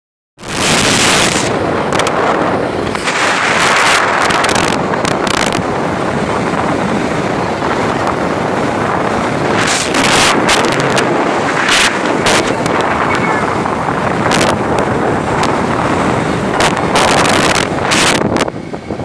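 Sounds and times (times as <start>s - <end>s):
motorcycle and road noise: 0.4s - 19.0s
wind rushing over microphone: 0.4s - 19.0s.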